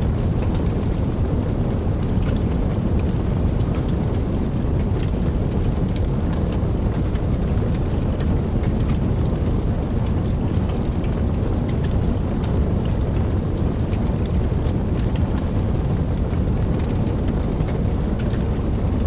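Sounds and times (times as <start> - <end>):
burning wood crackling and popping: 0.0 - 19.0
rush of flames: 0.0 - 19.0.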